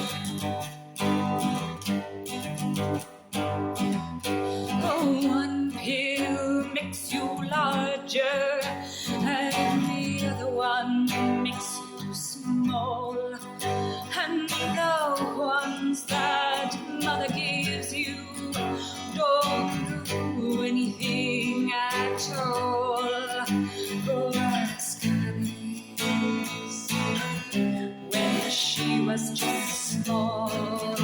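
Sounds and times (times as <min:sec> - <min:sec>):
strummed acoustic guitar: 0:00.0 - 0:31.0
woman singing with vibrato: 0:04.4 - 0:31.0.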